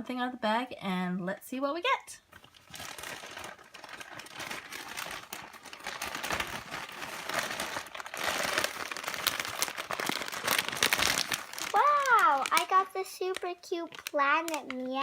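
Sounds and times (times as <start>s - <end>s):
plastic packaging crinkling: 2.3s - 15.0s.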